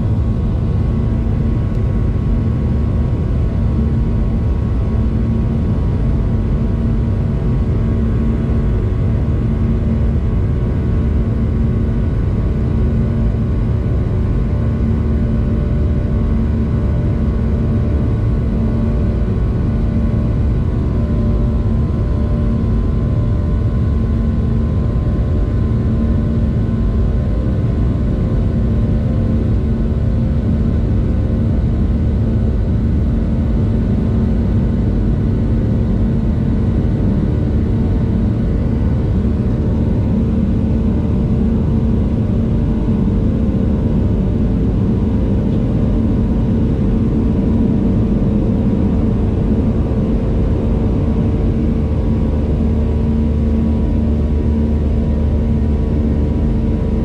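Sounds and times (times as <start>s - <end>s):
jet engine and airflow rumble: 0.0s - 57.0s
steady humming tones: 0.0s - 57.0s.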